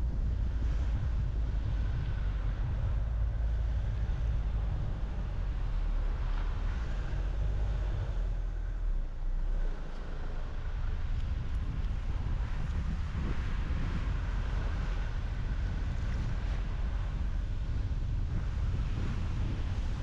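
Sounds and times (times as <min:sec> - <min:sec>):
road and tyre rumble: 0:00.0 - 0:20.0
wind noise: 0:00.0 - 0:20.0.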